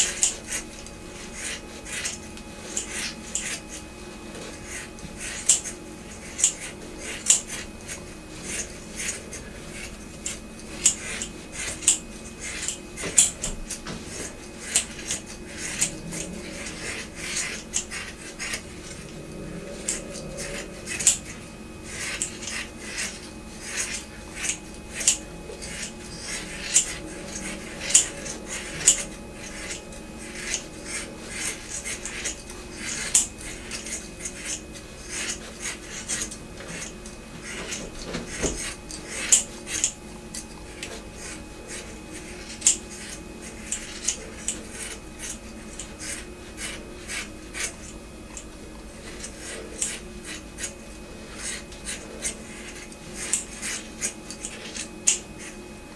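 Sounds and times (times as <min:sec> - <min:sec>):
scissors snipping hair: 0:00.0 - 0:03.8, 0:04.6 - 0:55.6.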